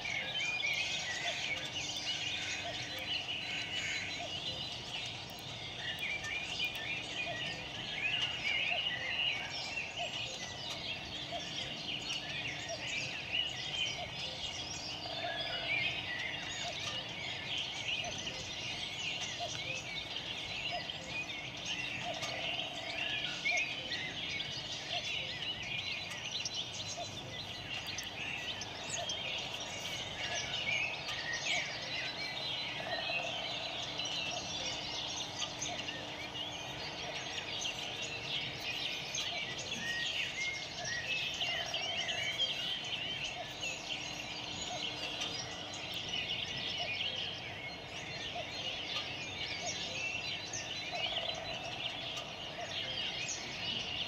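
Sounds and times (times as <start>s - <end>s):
dense chorus of birds chirping: 0.0s - 54.0s.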